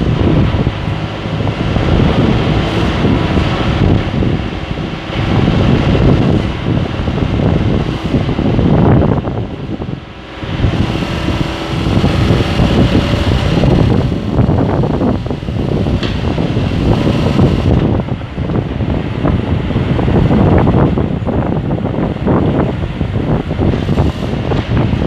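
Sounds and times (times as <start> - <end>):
backhoe engine running: 0.0 - 25.0.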